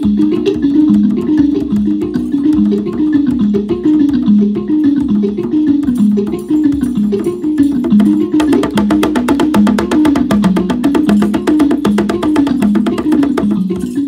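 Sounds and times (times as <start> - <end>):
hand drum fast strokes: 0.0 - 14.0
low melodic instrument pattern: 0.0 - 14.0.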